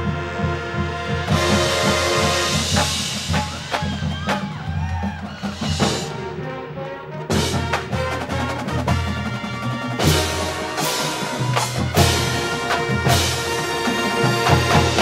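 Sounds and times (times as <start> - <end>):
brass horns playing chord: 0.0 - 3.4, 6.1 - 15.0
battery percussion: 1.0 - 6.3, 7.3 - 15.0.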